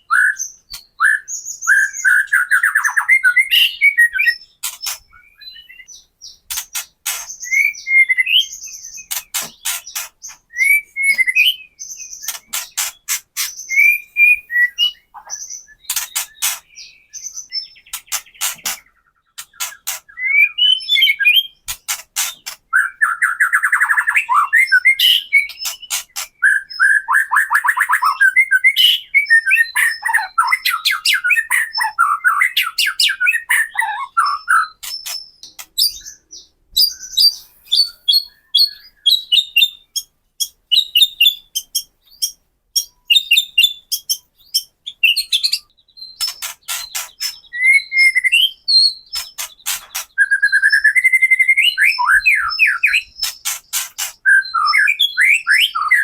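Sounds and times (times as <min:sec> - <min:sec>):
bird warbling song: 0:00.0 - 0:56.0
high thin bird chirps: 0:00.0 - 0:56.0.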